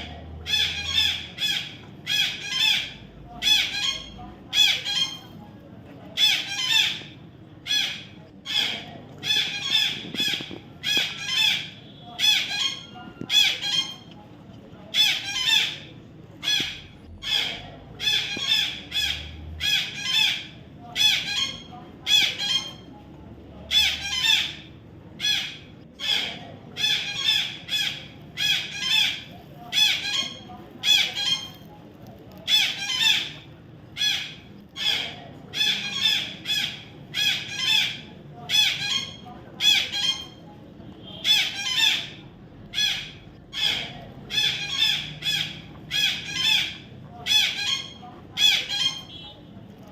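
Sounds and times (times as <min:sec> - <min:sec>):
parrot squawking: 0:00.4 - 0:05.4, 0:06.1 - 0:14.2, 0:14.9 - 0:23.0, 0:23.7 - 0:31.7, 0:32.4 - 0:49.2.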